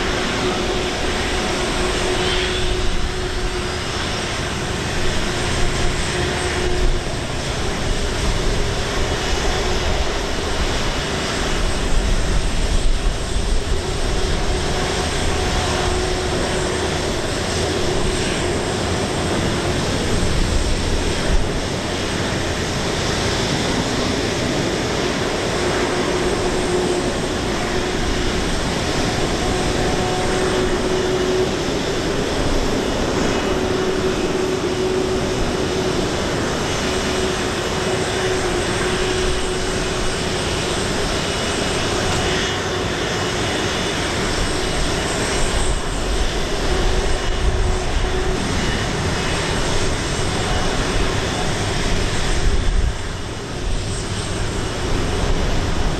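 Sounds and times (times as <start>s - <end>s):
jet aircraft rumble and whine: 0.0s - 55.9s.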